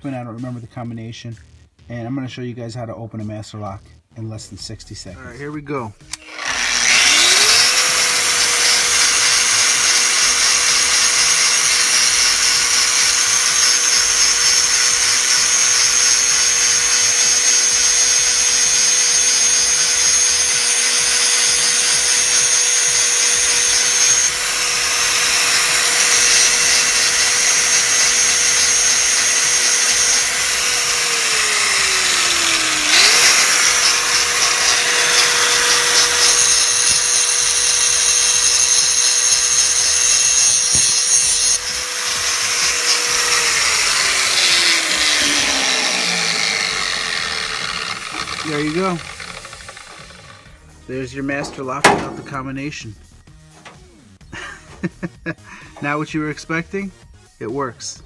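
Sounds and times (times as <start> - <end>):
angle grinder cutting metal: 6.0 - 56.7.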